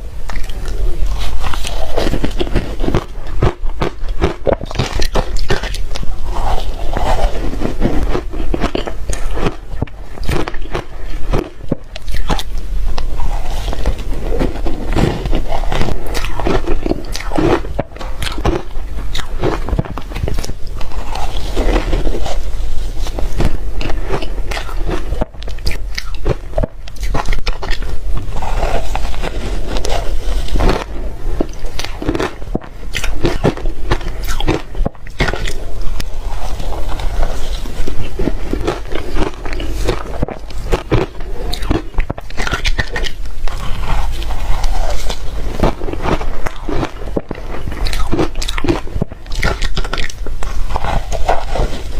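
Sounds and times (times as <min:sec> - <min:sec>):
crunching shaved ice: 0:00.3 - 0:51.9.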